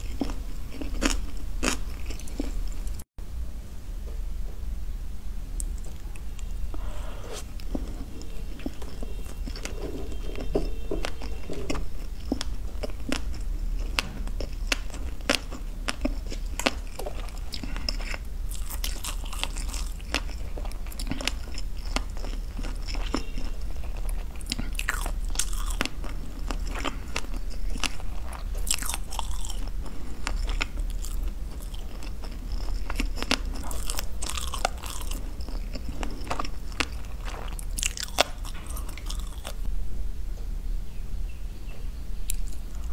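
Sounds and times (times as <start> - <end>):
person chewing sushi: 0.0 - 3.0, 5.6 - 39.7.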